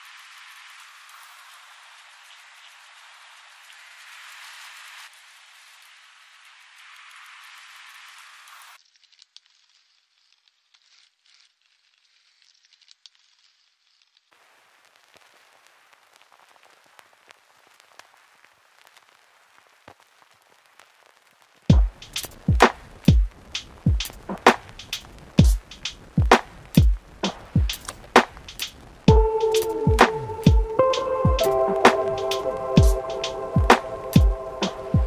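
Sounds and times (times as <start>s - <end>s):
rain hiss: 0.0s - 8.8s, 14.3s - 35.0s
faint vinyl crackle: 0.0s - 35.0s.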